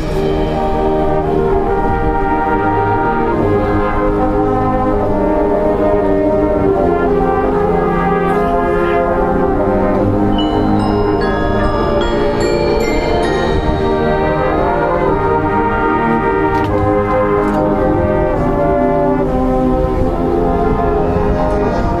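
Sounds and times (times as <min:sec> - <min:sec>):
low brass: 0:00.0 - 0:22.0
marching band brass chords: 0:00.0 - 0:22.0.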